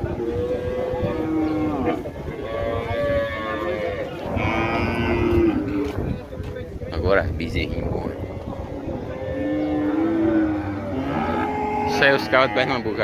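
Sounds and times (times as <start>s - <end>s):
cattle mooing: 0.0s - 5.9s, 8.3s - 13.0s.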